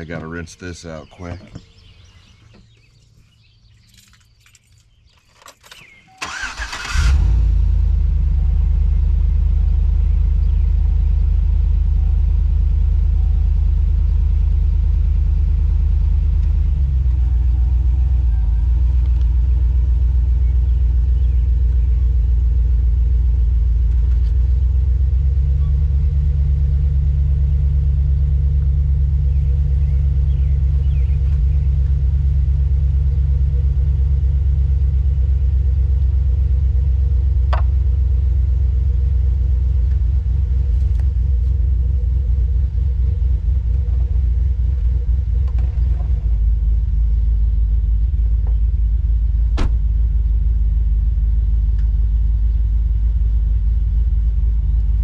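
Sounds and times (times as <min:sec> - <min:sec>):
truck engine starting and idling: 0:05.6 - 0:55.0.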